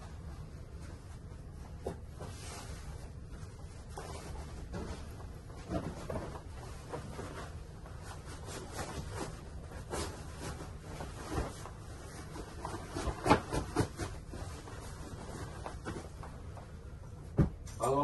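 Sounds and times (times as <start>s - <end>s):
bed linen rustling: 0.0s - 18.0s.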